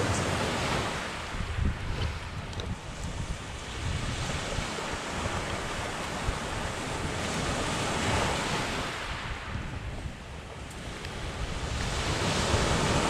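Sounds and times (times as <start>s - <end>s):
sea surf washing on shore: 0.0s - 13.0s
wind rumbling on microphone: 0.0s - 13.0s.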